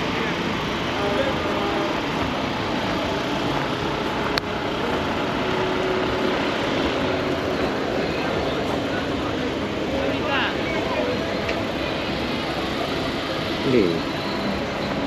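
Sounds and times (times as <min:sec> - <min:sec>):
vehicle engine noise: 0:00.0 - 0:15.0.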